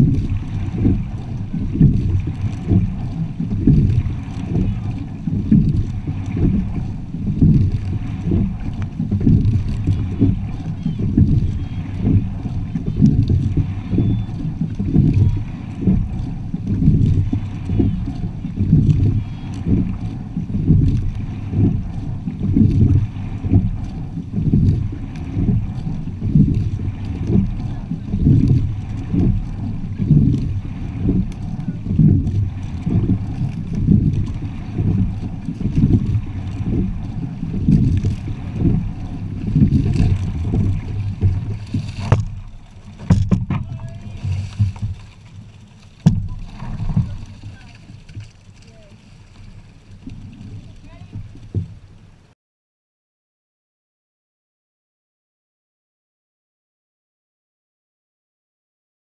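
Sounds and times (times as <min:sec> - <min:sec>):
wind buffeting microphone: 0:00.0 - 0:48.9
water rushing along hull: 0:00.0 - 0:52.4.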